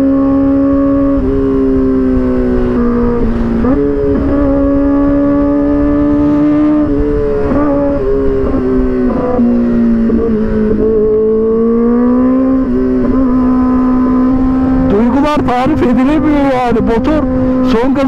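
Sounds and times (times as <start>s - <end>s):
low wind rumble: 0.0s - 18.0s
motorcycle engine revving high: 0.0s - 18.0s.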